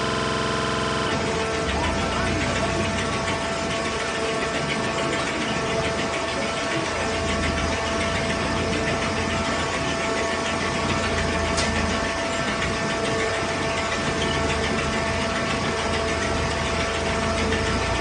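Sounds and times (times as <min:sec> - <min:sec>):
shredder machine hum with whine: 0:00.0 - 0:18.0.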